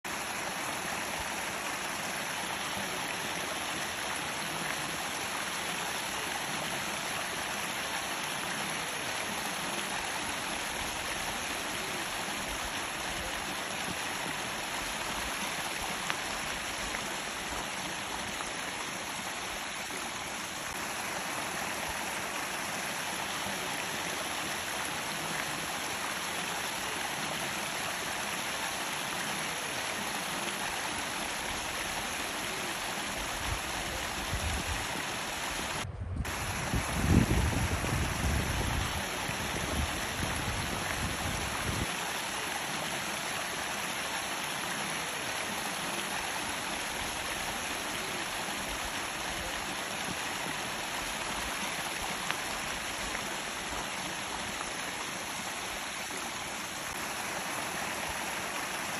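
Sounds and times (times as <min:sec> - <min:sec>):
stream rushing: 0:00.0 - 0:58.9.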